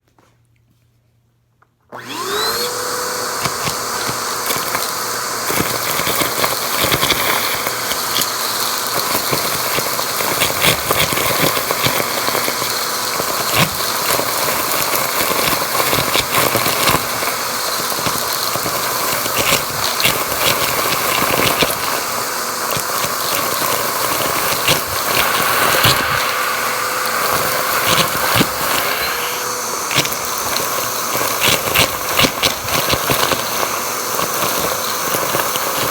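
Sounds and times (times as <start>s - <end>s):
vacuum cleaner motor whine: 1.9s - 35.9s
debris crackling in vacuum: 2.0s - 35.9s.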